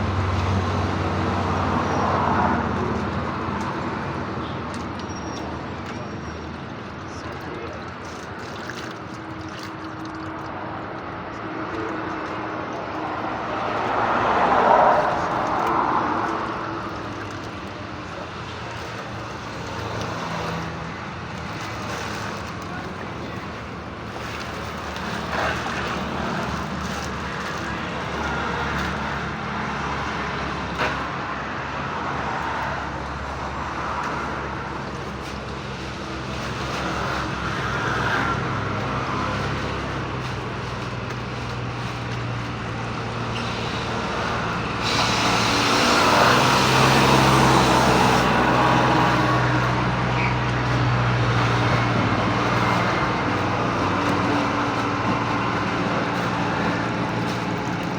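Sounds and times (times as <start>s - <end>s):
engine running steadily: 0.0s - 57.9s.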